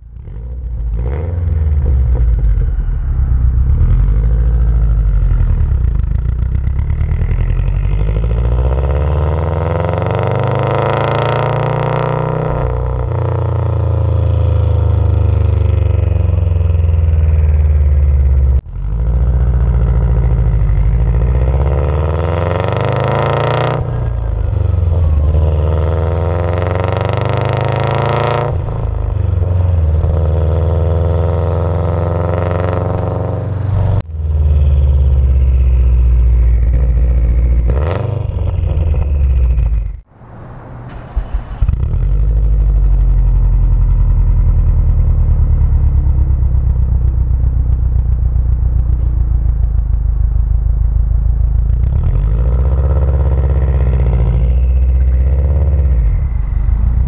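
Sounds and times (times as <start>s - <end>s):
car exhaust revving through gears: 0.0s - 40.1s, 41.2s - 57.0s.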